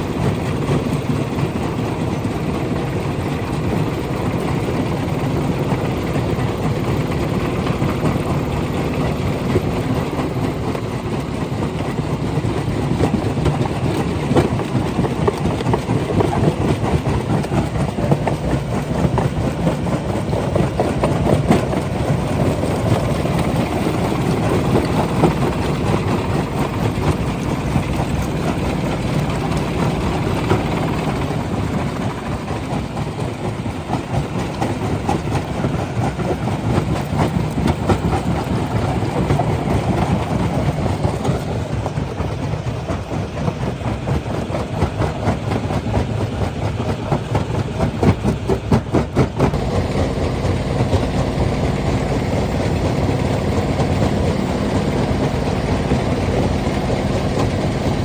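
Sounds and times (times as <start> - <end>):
rock crusher rumbling: 4.2 - 42.2, 48.3 - 58.0.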